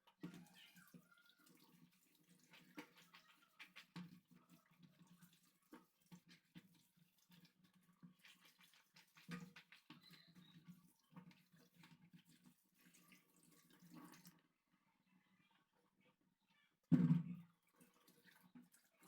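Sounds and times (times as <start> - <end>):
water splashing in a sink: 0.0 - 14.4, 16.9 - 19.0.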